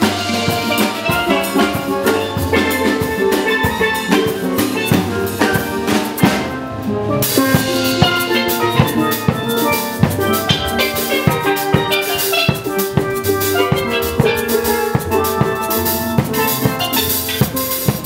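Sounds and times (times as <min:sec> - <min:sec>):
drum kit beat: 0:00.0 - 0:18.0
steel pans playing a tune: 0:00.0 - 0:18.0.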